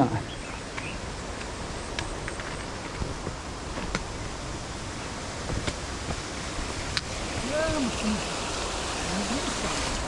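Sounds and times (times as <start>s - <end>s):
heavy rain falling: 0.6s - 10.0s
raindrops striking close by: 0.6s - 10.0s.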